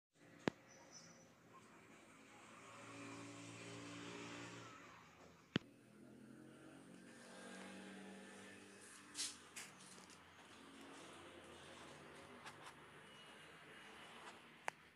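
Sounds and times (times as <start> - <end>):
faint motor hum: 0.2 - 14.6.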